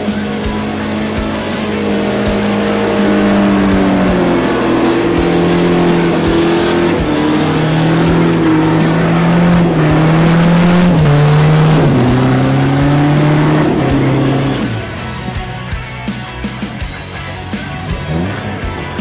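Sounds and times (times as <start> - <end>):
tyre and mud noise: 0.0 - 16.6
background music: 0.0 - 19.0
truck engine working hard: 0.0 - 19.0.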